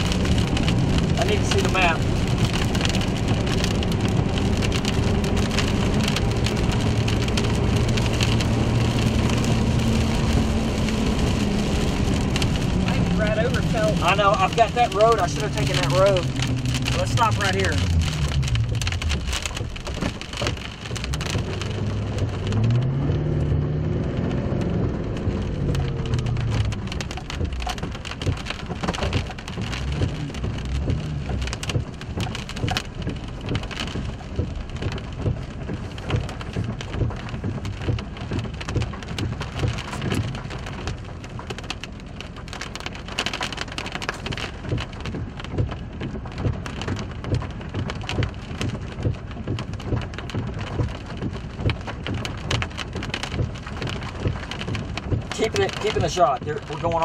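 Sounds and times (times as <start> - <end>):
heavy rain on vehicle roof: 0.0 - 57.0.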